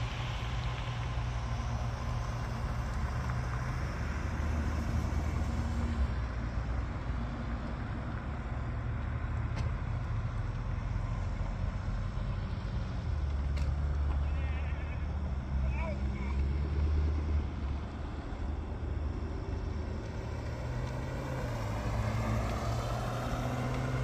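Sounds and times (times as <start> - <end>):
car engines rumbling: 0.0 - 24.0.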